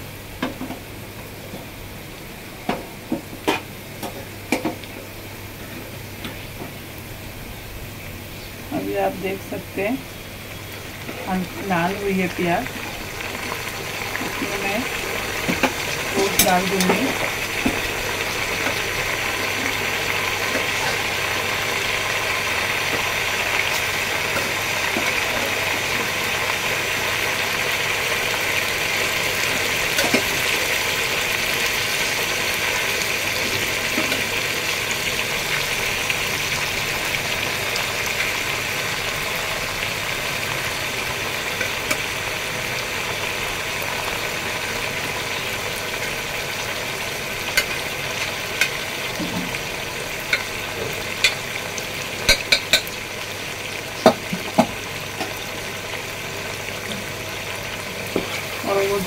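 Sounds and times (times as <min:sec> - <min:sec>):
meat and onions sizzling in oil: 0:00.0 - 0:59.0.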